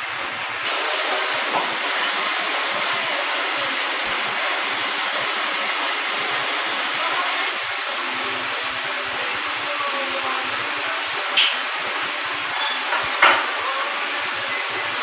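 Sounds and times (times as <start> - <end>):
water running into bathtub: 0.0 - 15.0.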